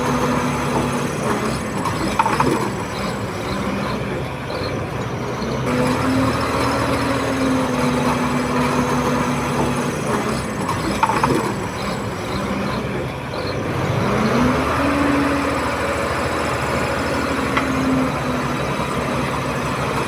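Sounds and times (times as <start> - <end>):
bulldozer diesel engine working: 0.0 - 20.0.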